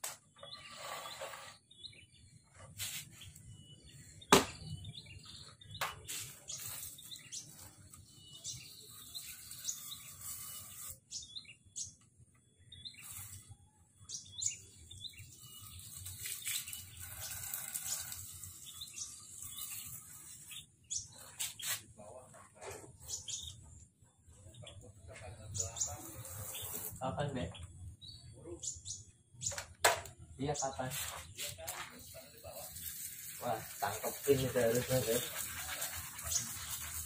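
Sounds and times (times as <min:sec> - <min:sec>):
songbirds chirping: 0:00.1 - 0:37.0.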